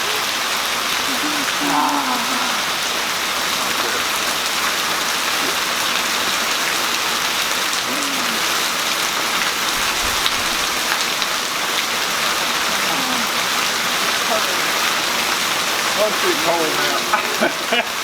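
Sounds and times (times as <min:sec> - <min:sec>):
rain falling: 0:00.0 - 0:18.0
raindrop ticks: 0:00.1 - 0:18.0.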